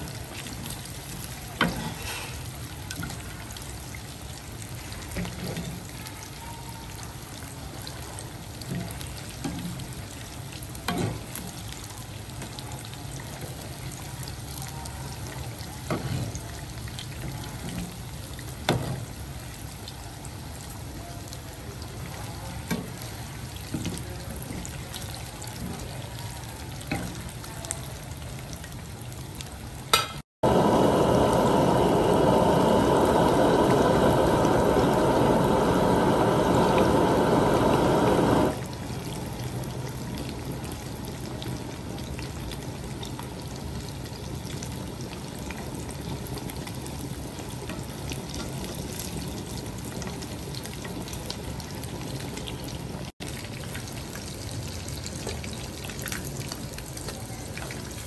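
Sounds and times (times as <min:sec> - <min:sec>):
fish deep-frying in oil: 0:00.0 - 0:58.0.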